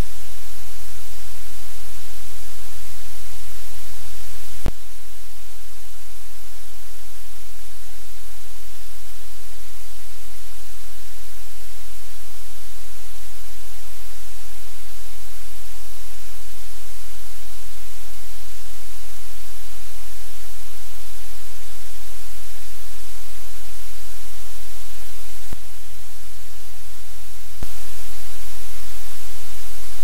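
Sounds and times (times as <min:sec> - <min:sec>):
static hiss: 0:00.0 - 0:30.0.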